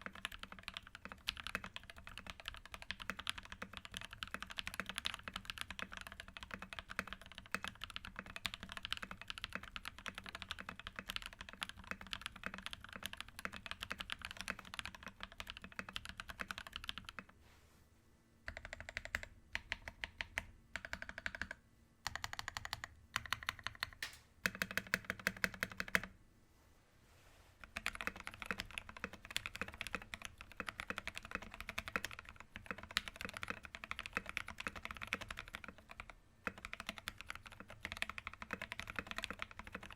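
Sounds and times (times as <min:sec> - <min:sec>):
fast typing on mechanical keyboard: 0:00.0 - 0:17.3, 0:18.5 - 0:26.1, 0:27.6 - 0:39.9.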